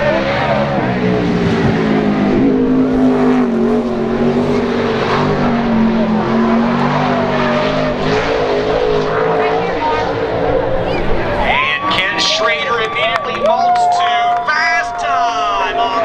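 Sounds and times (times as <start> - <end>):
racing truck engine running hard: 0.0 - 16.0.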